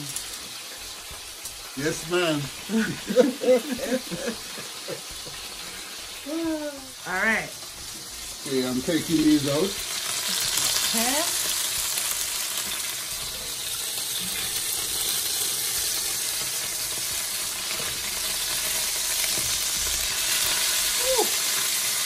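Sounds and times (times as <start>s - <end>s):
chicken sizzling in a frying pan: 0.0s - 22.0s.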